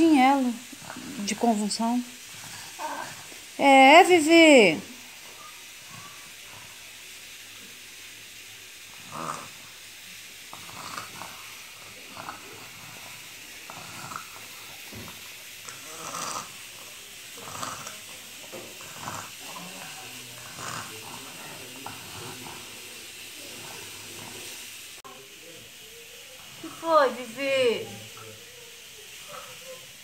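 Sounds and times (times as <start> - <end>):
faint steady hiss: 0.0 - 30.0.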